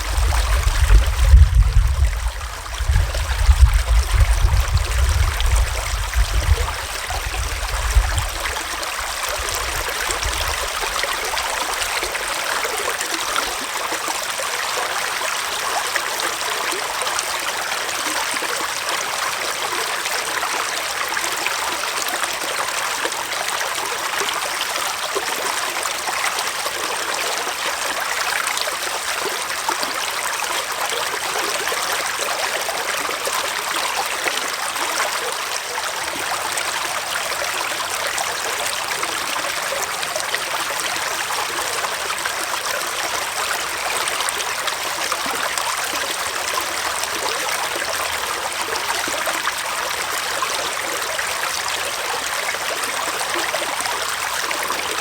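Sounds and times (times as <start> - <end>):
stream trickling over stones: 0.0 - 55.0.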